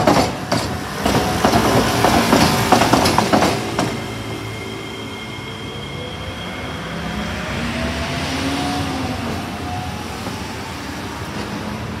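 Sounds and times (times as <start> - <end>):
tram passing: 0.0 - 12.0.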